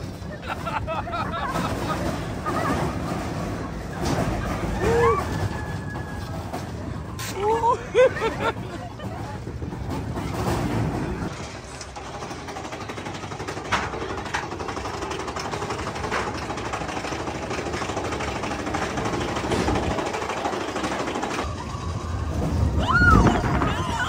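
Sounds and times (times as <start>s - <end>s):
roller coaster rattling on track: 0.0s - 24.0s.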